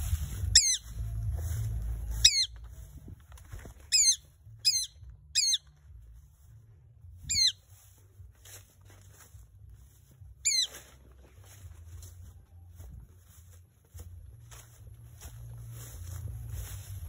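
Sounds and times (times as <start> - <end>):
rustling through undergrowth: 0.0 - 17.0.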